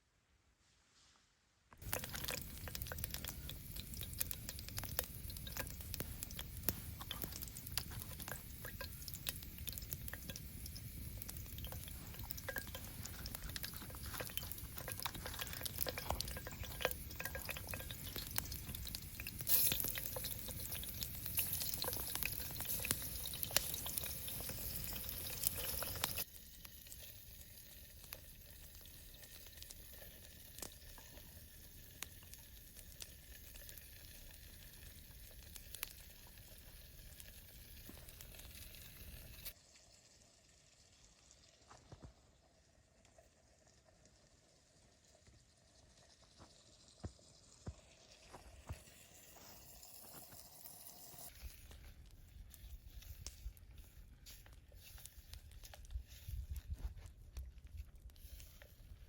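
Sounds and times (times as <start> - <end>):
campfire crackles: 1.8 - 59.0
food sizzling over a fire: 1.8 - 59.0.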